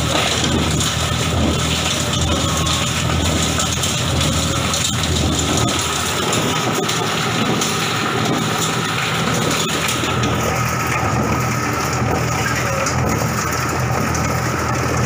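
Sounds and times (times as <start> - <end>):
grinder machine drone: 0.0 - 15.0.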